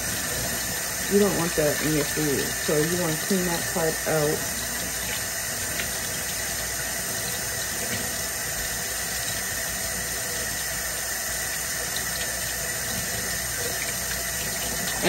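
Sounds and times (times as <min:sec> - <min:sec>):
faucet water splashing over fish: 0:00.0 - 0:15.0.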